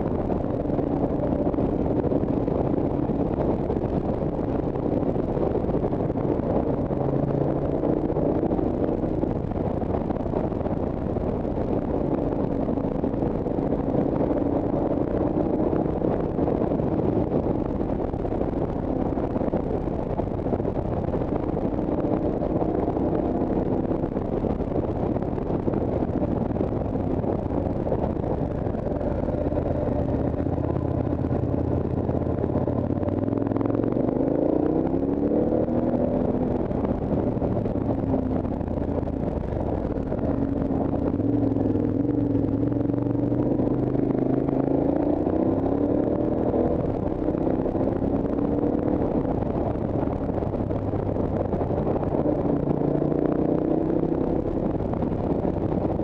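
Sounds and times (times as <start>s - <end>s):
motorcycle engine running: 0.0s - 56.0s
steady rushing noise: 0.0s - 56.0s.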